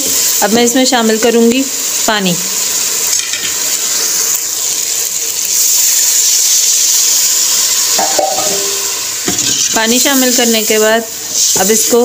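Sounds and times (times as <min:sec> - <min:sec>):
water hissing in hot oil: 0:00.0 - 0:12.0.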